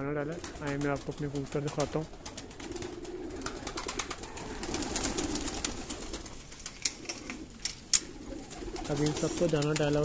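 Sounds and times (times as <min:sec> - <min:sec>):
pigeons cooing: 0:00.3 - 0:10.0.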